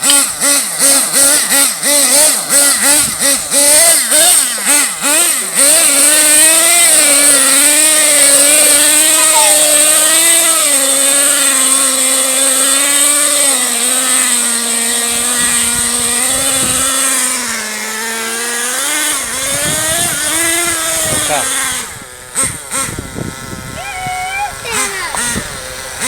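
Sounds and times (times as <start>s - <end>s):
small nitro engine revving high: 0.0s - 26.0s.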